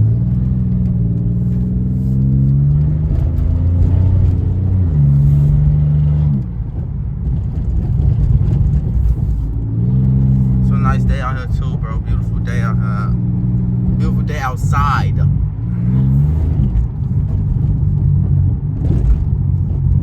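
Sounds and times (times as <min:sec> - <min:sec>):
car engine accelerating: 0:00.0 - 0:20.0
crackling exhaust burbles: 0:00.0 - 0:20.0.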